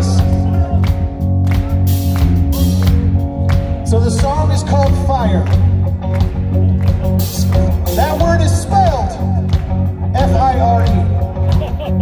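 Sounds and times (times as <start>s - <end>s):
bass: 0.0s - 12.0s
bending guitar melody: 0.0s - 12.0s
electric guitars sustaining chords: 0.0s - 12.0s.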